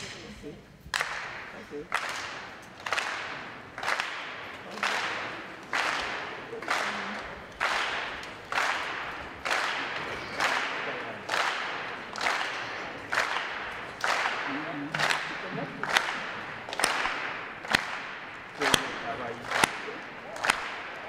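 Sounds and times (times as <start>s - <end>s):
crowd clapping in unison: 0.9s - 21.0s.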